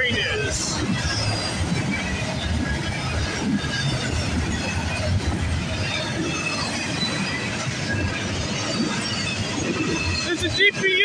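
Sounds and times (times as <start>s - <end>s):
train wheels rumbling on rail: 0.0s - 11.0s
high-pitched wheel squeals: 0.3s - 10.6s.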